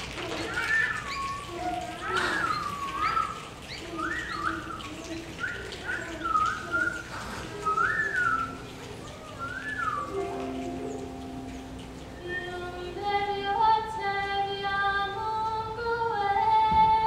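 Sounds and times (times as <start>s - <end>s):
choir whistling bird calls: 0.0s - 14.0s
low hooting tones: 0.0s - 15.2s.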